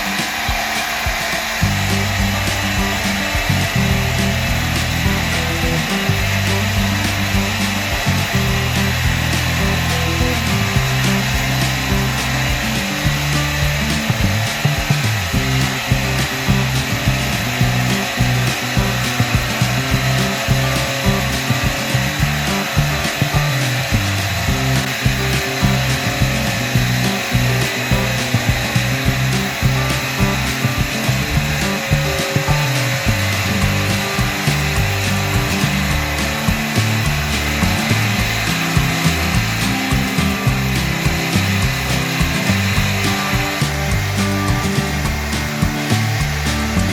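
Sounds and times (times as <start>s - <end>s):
background music: 0.0s - 46.9s.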